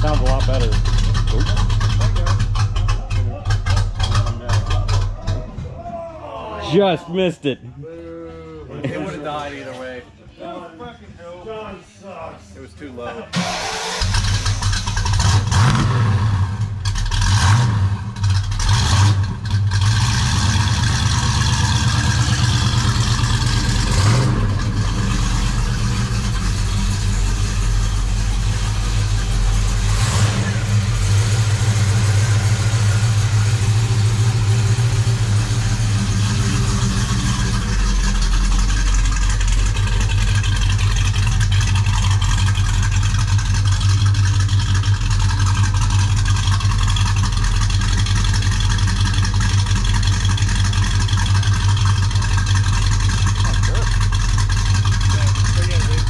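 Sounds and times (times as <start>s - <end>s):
car engine revving and idling: 0.0s - 5.5s, 13.4s - 56.0s.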